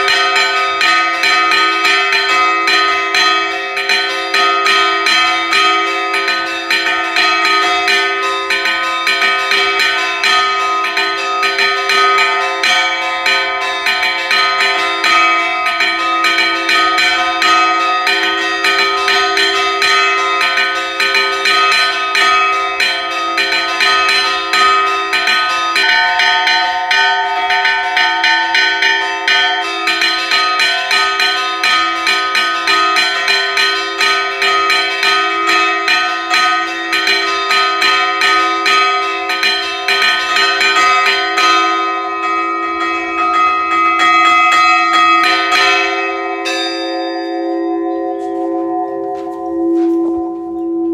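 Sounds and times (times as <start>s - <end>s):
church bells ringing fast: 0.0s - 50.9s.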